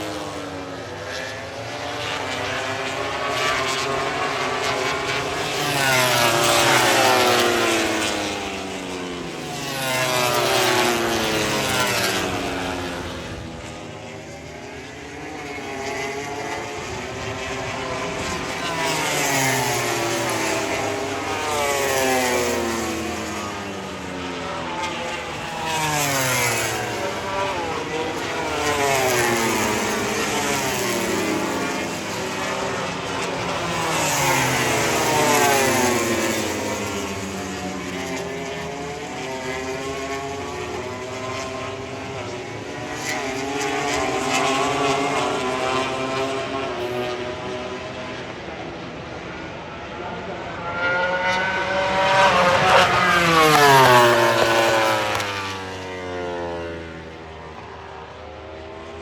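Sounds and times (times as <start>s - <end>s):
race motorcycles passing: 0.0s - 59.0s.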